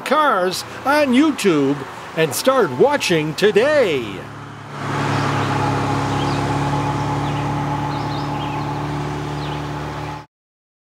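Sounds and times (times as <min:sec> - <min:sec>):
car engine humming: 0:00.0 - 0:10.3.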